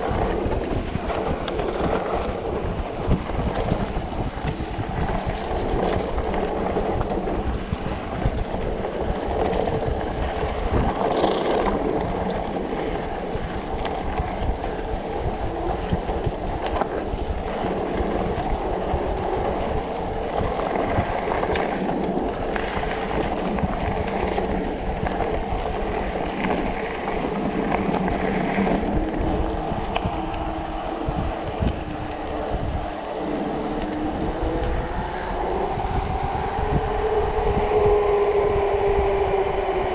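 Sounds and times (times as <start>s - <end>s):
bike rattling over ground: 0.0s - 39.9s
electric bike motor whine: 0.0s - 39.9s
wind rumble on microphone: 0.0s - 39.9s.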